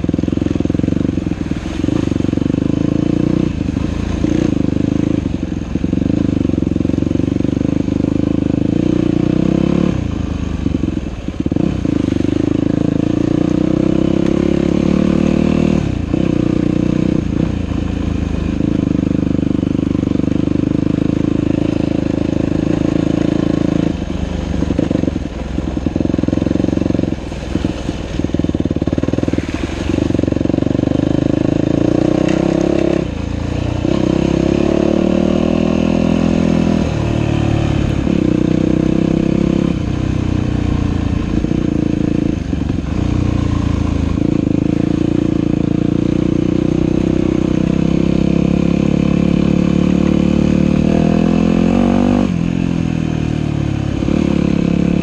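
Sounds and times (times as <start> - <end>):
dirt bike engine revving: 0.0 - 10.1, 11.4 - 17.6, 24.6 - 55.0.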